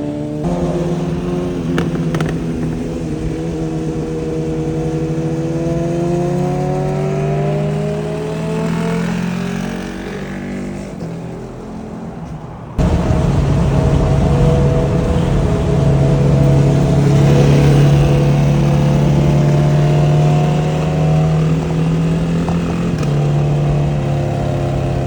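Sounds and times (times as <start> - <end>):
loud engine: 0.0 - 11.7, 12.8 - 25.0
motorcycle accelerating: 0.0 - 25.0.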